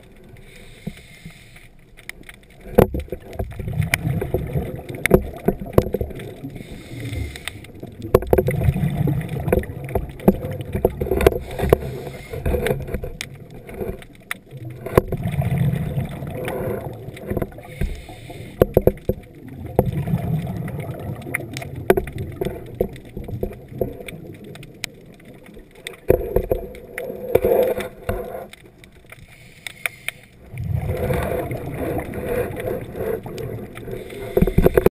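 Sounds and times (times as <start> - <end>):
underwater exhaled bubbles: 2.2 - 29.4, 30.4 - 34.9.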